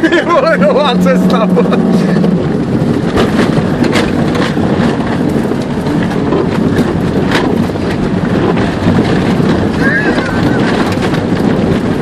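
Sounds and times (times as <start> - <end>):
car engine revving hard: 0.0 - 12.0
car knocking and rattling: 0.0 - 12.0.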